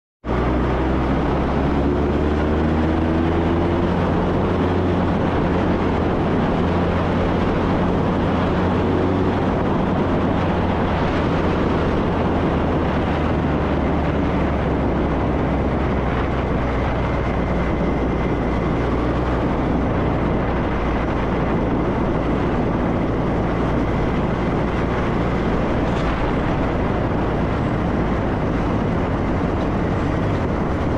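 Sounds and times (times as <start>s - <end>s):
wind and road noise: 0.2s - 30.9s
motorcycle engine running: 0.6s - 30.9s.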